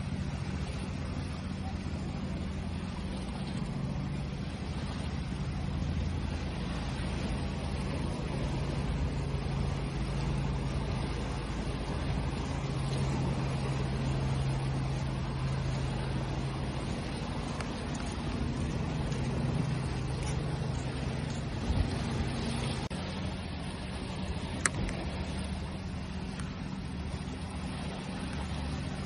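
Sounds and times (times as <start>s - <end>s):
low mechanical hum: 0.0s - 29.0s
sea waves rushing: 0.0s - 29.0s.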